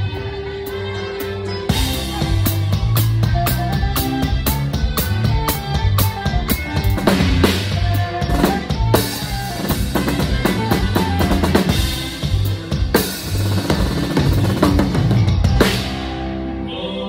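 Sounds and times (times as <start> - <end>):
drum kit playing: 0.0 - 16.6
band playing: 0.0 - 17.0.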